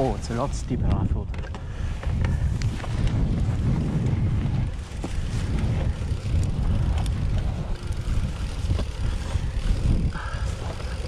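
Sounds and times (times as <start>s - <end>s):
bike clicks and rattles: 0.0s - 11.0s
bike tyres rumbling over grass: 0.0s - 11.0s
wind on microphone: 0.0s - 11.0s.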